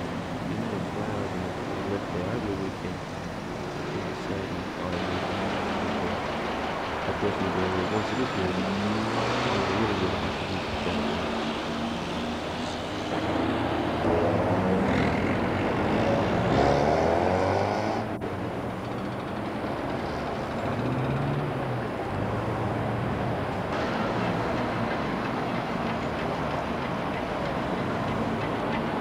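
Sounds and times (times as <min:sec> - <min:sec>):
heavy engine running: 0:00.0 - 0:16.6, 0:18.0 - 0:29.0.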